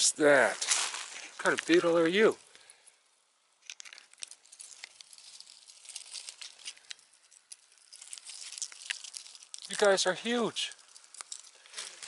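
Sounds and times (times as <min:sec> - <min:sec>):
dry leaves crackling: 0:00.0 - 0:03.0, 0:03.6 - 0:12.0.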